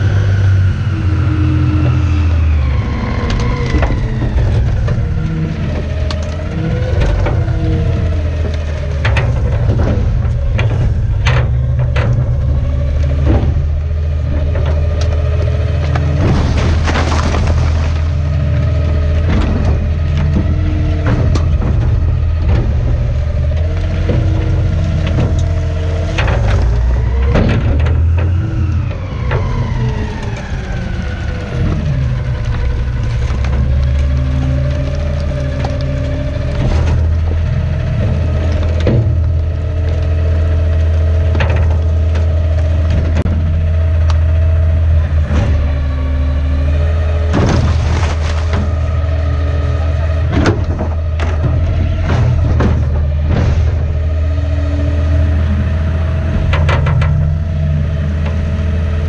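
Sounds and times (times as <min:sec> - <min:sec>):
garbage truck engine rumble: 0:00.0 - 0:59.0
mechanical whine: 0:00.0 - 0:59.0
knocks and thumps: 0:01.4 - 0:59.0.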